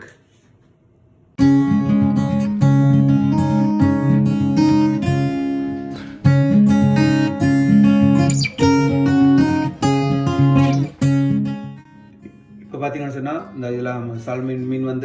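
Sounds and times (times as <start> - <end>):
strummed acoustic guitar: 1.4 - 13.7.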